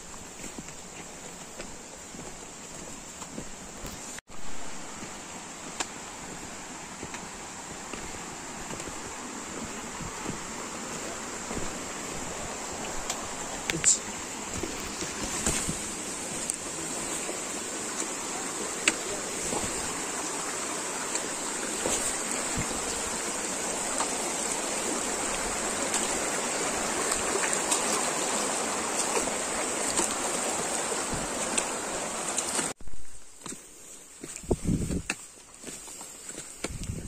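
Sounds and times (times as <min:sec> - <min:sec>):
stream water flowing: 0:00.0 - 0:34.6.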